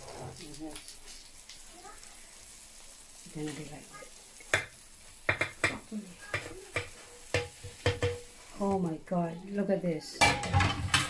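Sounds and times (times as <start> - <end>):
faint sizzle from hot pan: 0.0 - 11.0.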